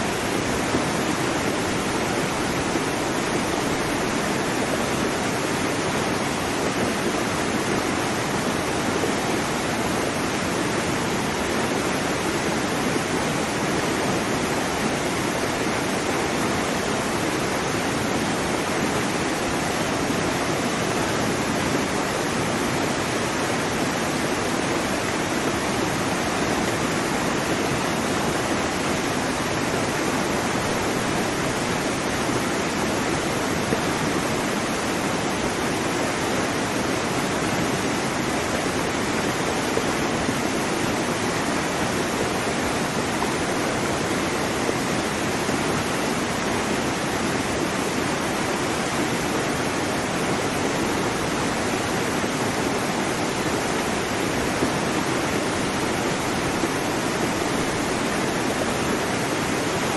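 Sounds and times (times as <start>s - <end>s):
waterfall pouring and splashing: 0.0s - 59.9s.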